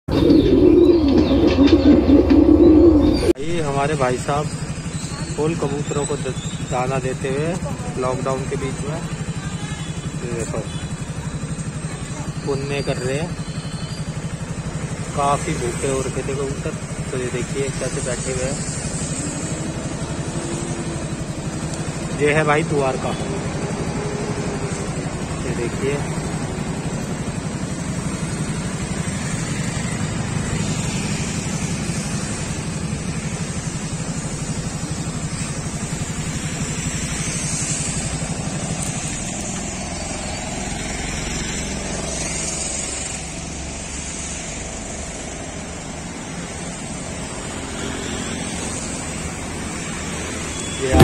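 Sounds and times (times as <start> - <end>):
car and motorcycle engines: 0.0 - 51.0.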